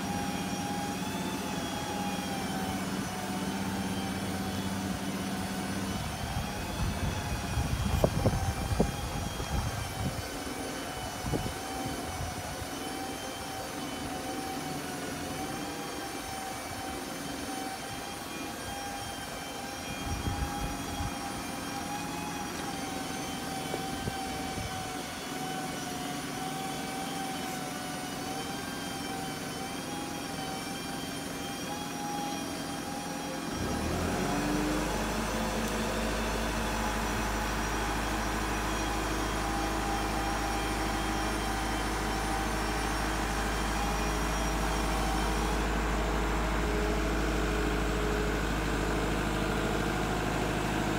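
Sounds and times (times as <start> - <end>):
diesel engine running: 0.0 - 50.9
hydraulic pump whining: 0.0 - 50.9.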